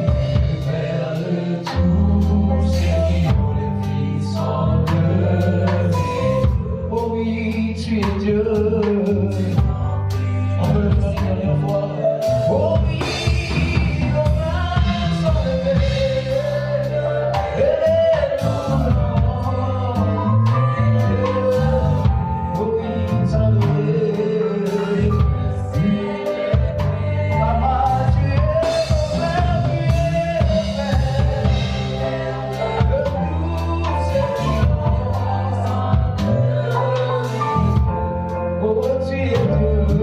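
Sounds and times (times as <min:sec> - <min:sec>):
gospel band playing: 0:00.0 - 0:40.0
singers singing: 0:00.0 - 0:40.0.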